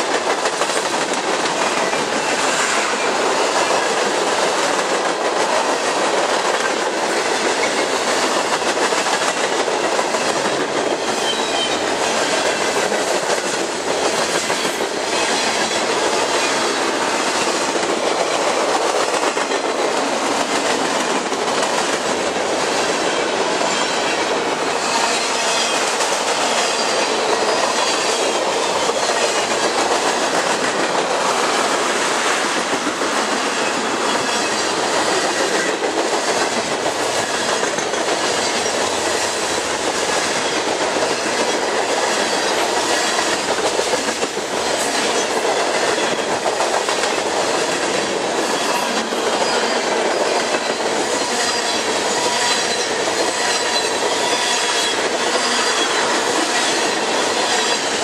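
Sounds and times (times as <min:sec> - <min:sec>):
train wheels rumbling on rails: 0:00.0 - 0:58.0
wheels clicking over rail joints: 0:00.0 - 0:58.0.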